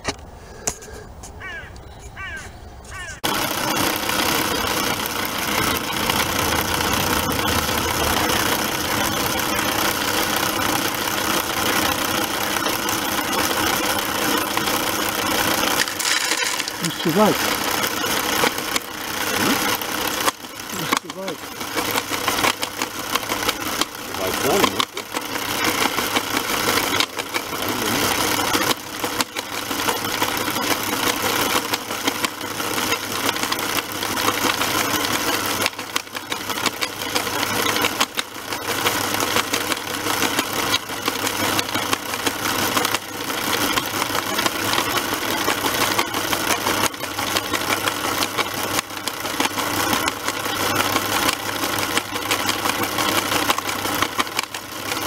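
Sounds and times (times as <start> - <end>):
small motors whirring and rattling: 0.6 - 55.0.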